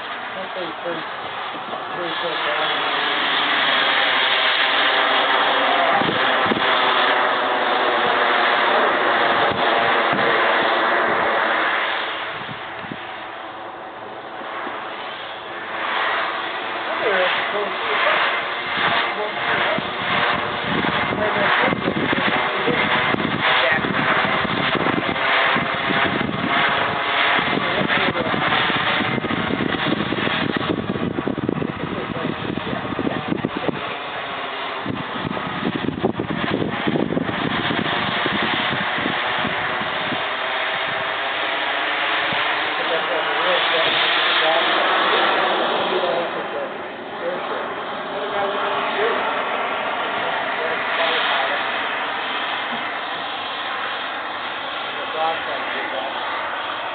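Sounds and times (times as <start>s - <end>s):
model jet turbine engine hissing: 0.0s - 56.9s.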